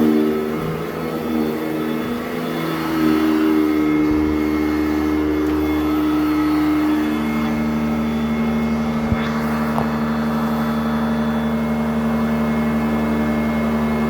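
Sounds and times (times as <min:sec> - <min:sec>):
upright vacuum cleaner running: 0:00.0 - 0:14.0.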